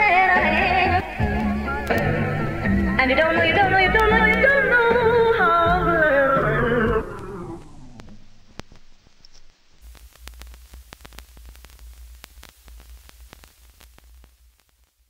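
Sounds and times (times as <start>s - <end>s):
vinyl record crackle: 0.0s - 15.0s.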